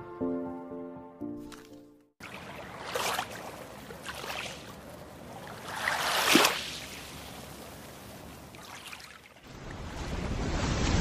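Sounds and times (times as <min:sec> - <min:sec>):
water lapping and splashing: 0:01.4 - 0:11.0.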